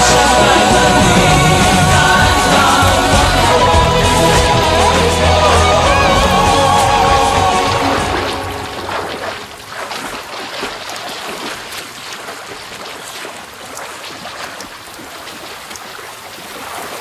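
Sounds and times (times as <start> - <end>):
heavy rain on open ground: 0.0 - 16.8.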